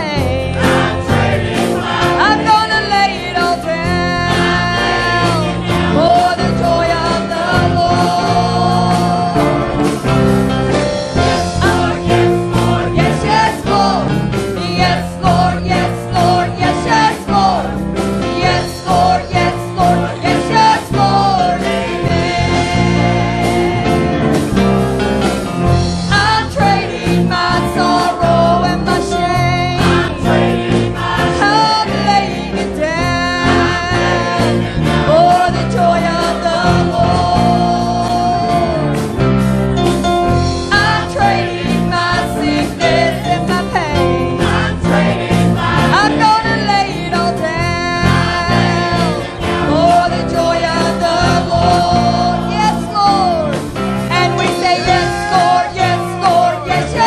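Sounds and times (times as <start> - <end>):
voices singing: 0.0 - 25.4, 26.0 - 57.0
church band playing gospel song: 0.0 - 57.0.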